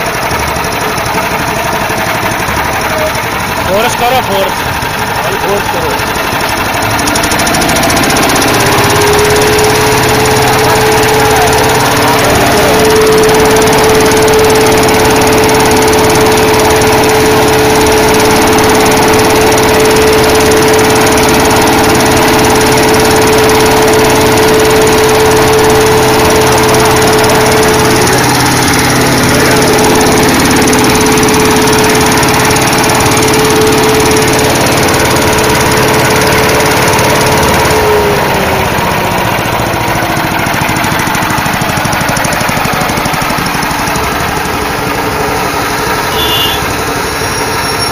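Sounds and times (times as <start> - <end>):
air blower whine: 0.0 - 47.9
small petrol engine at full throttle: 0.0 - 47.9.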